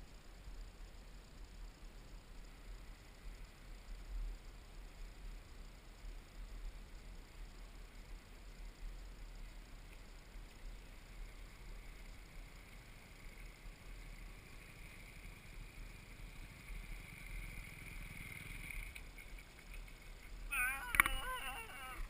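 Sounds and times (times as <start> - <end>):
distant motocross bike engines: 1.4 - 22.0.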